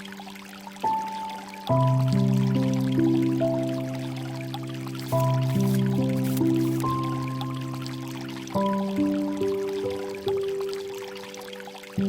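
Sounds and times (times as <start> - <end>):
soft sustained background music: 0.0 - 12.0.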